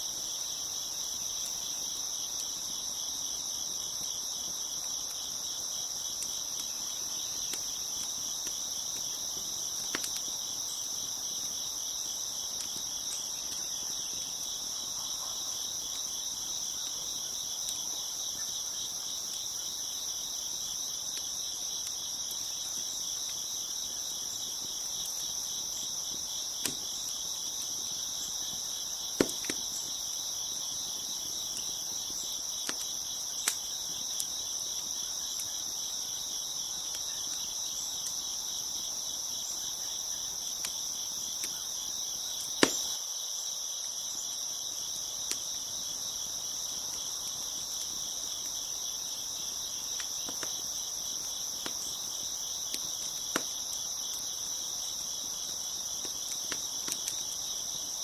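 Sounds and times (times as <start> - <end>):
crickets chirping: 0.0 - 58.0
wood fire crackling: 0.0 - 58.0.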